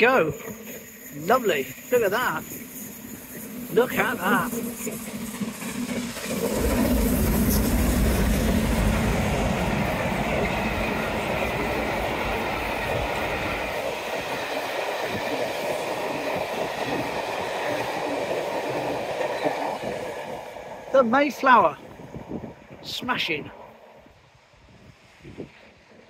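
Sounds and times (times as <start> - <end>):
wheels on rails: 0.0 - 20.9
steam train passing: 0.0 - 26.0.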